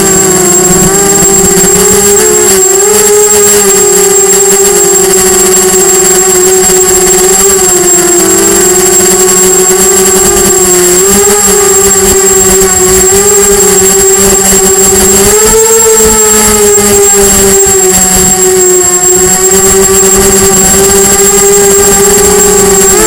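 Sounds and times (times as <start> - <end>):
quadcopter motors whining: 0.0 - 23.0.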